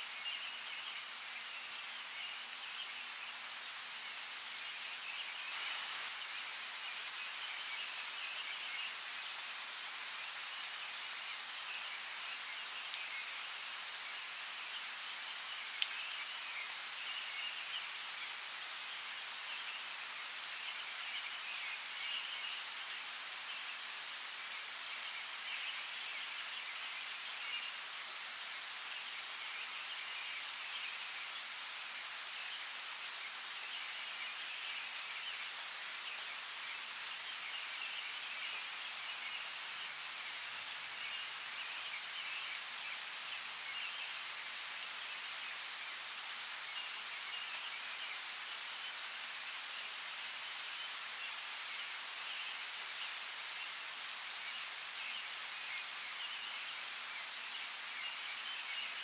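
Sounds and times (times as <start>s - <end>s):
steady rain hissing: 0.0s - 59.0s.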